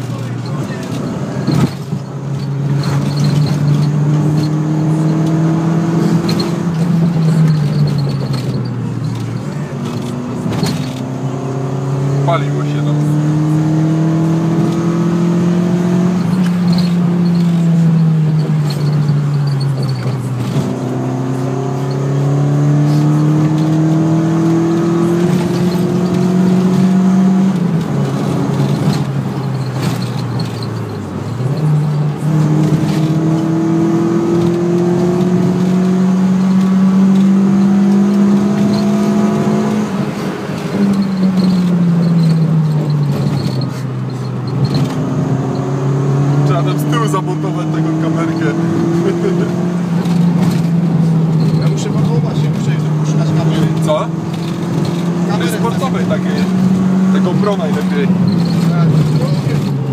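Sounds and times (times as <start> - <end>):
car engine accelerating: 0.0 - 59.9
road noise: 0.0 - 59.9.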